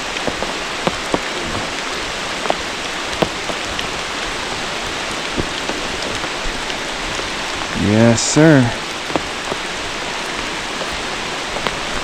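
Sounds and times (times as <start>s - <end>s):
close water drops splashing: 0.0s - 12.0s
rain falling on a creek: 0.0s - 12.0s.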